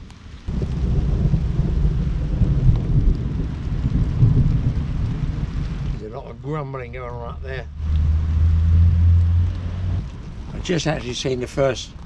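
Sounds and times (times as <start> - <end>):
steady rain falling: 0.0 - 12.0
thunder rumbling: 0.5 - 10.8.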